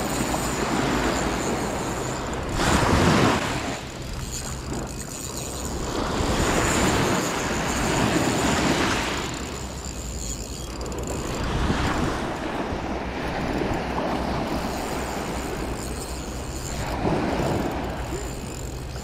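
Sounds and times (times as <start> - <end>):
surf washing on shore: 0.0 - 3.9, 5.7 - 9.8, 11.2 - 19.0
wind rumbling on microphone: 0.0 - 9.6, 11.1 - 19.0
fishing reel being cranked: 0.0 - 19.0.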